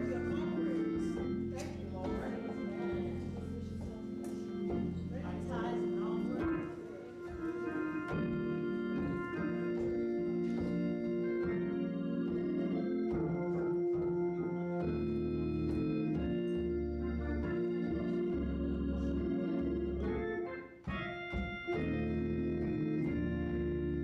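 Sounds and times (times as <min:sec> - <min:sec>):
organ playing sustained chords: 0:00.0 - 0:24.0.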